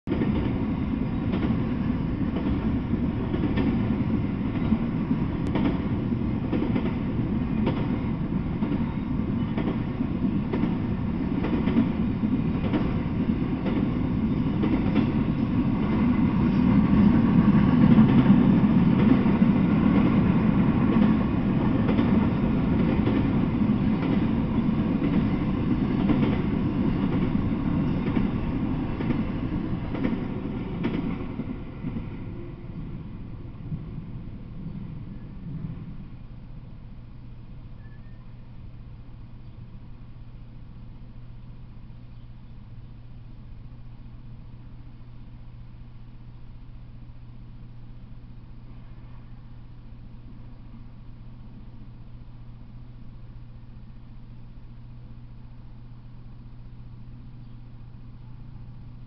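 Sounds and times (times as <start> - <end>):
train wheels rumbling on rails: 0.1 - 59.0.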